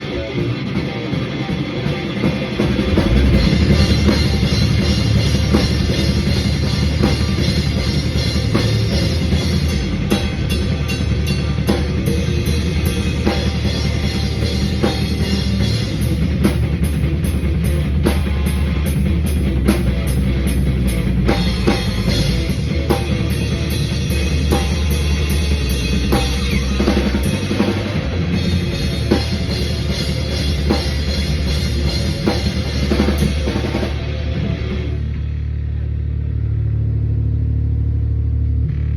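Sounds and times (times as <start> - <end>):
drum kit beat: 0.0 - 35.2
punk rock band playing: 0.0 - 36.5.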